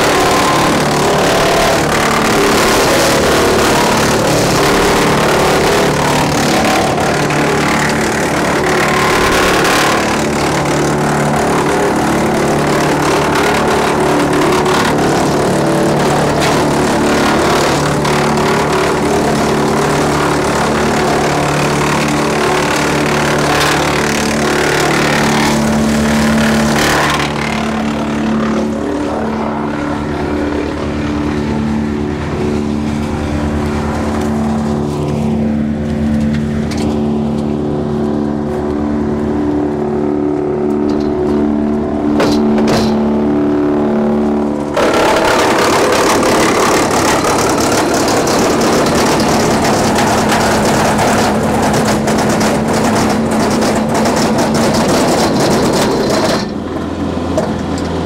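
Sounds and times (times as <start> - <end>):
chipper spinning empty hum: 0.0 - 58.0
tractor drone: 0.0 - 58.0
wood chipper grinding branches: 0.0 - 58.0.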